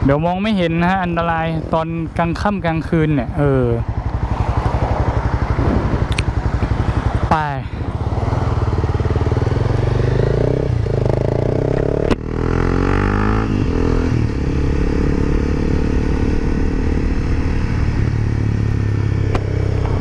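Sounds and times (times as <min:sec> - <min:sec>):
motorcycle engine accelerating: 0:01.1 - 0:20.0.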